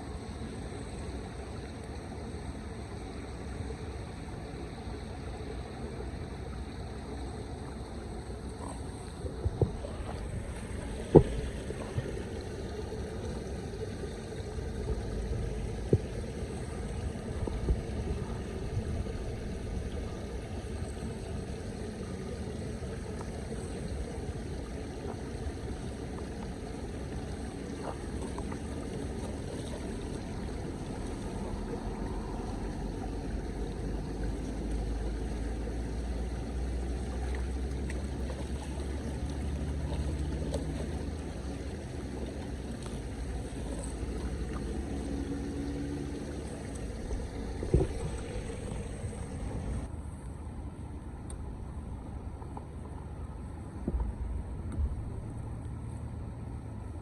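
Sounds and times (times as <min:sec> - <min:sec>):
floodwater flowing and sloshing: 0:00.0 - 0:57.0.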